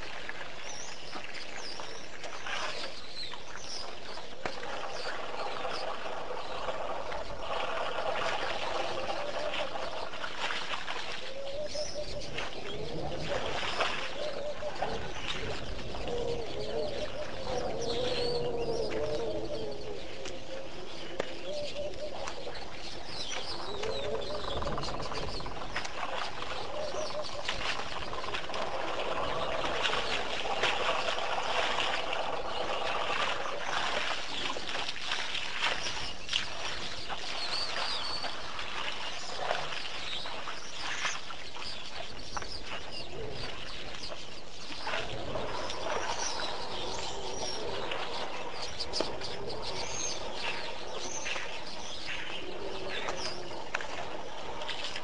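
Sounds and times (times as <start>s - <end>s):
birds calling and chirping: 0.0s - 55.0s
lower longer bird calls: 0.6s - 34.7s, 35.6s - 55.0s.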